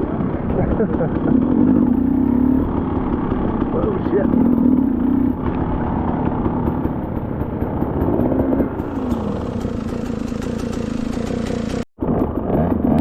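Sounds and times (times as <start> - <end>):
two-stroke dirt bike engine: 0.0 - 13.0.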